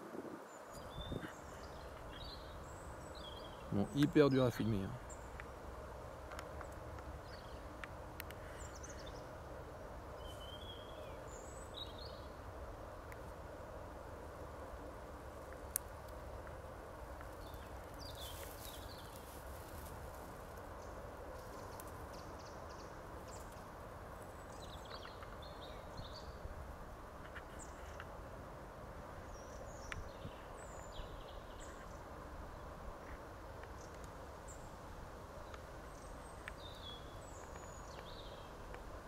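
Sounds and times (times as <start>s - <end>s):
low background hiss: 0.0s - 39.0s.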